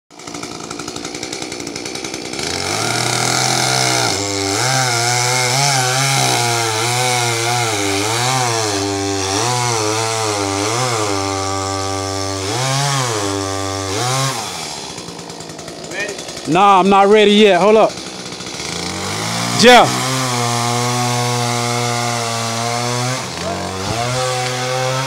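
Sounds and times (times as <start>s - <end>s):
chainsaw idling and cutting: 0.1s - 25.0s.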